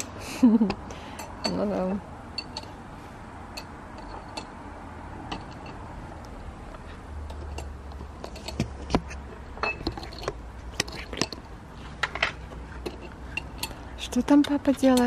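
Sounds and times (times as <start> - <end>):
low steady rumble: 0.0 - 15.0
metal hardware clinking: 1.1 - 2.8, 3.5 - 4.6, 5.2 - 15.0.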